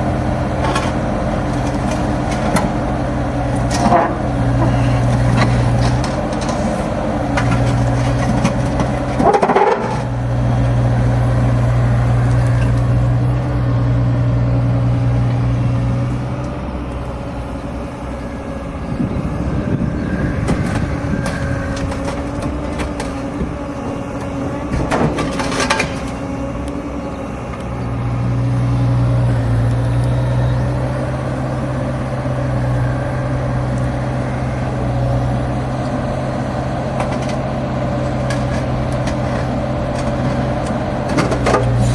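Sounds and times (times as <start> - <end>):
excavator diesel engine running: 0.0 - 41.9
hydraulics humming: 0.0 - 41.9.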